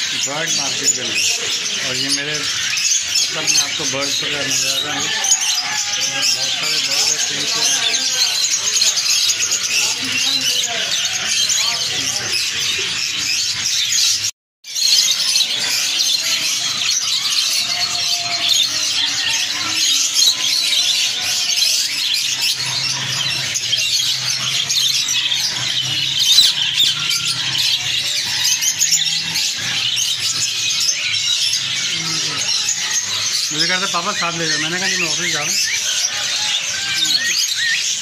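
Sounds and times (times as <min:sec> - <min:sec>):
caged birds twittering: 0:00.0 - 0:38.0.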